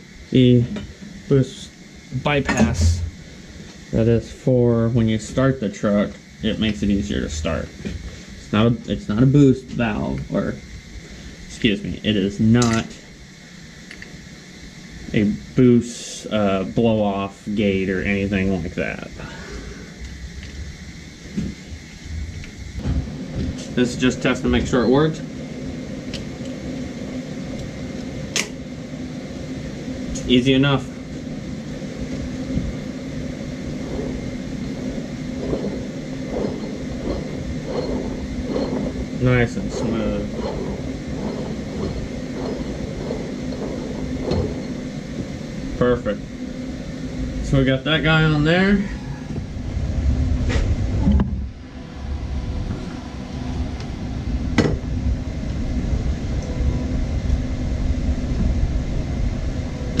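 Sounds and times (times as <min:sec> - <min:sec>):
low machine hum: 0:00.0 - 1:00.0
steady low rumble: 0:00.0 - 1:00.0
supercharger rotors spinning: 0:00.0 - 1:00.0.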